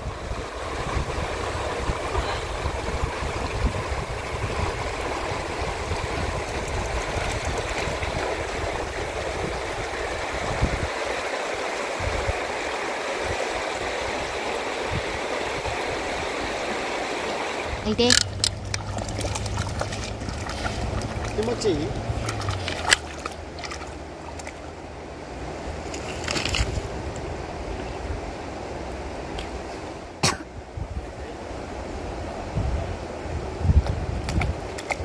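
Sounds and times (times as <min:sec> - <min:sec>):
wind rumble on microphone: 0:00.0 - 0:16.8, 0:17.6 - 0:35.0
river water rushing: 0:00.0 - 0:30.3.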